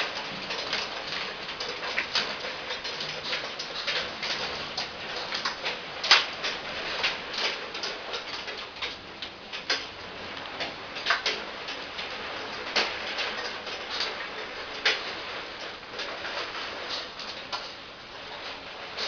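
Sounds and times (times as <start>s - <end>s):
rainwater dripping and splashing: 0.0s - 19.0s.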